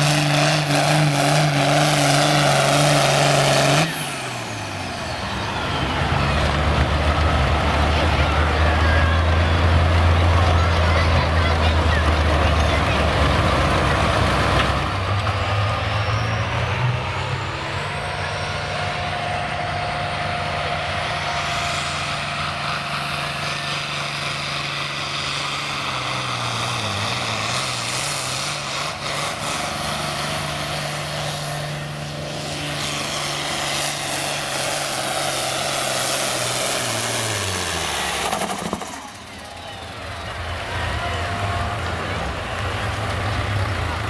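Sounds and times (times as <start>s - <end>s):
tractor engine drone under load: 0.0s - 44.0s.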